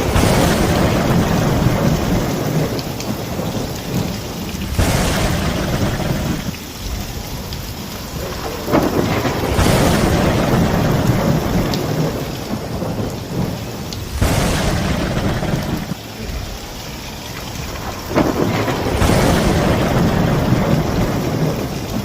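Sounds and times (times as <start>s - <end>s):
sharp thunderclap: 0.0s - 16.5s, 17.6s - 22.0s
rumbling thunder: 0.0s - 22.0s
steady rain: 0.0s - 22.0s.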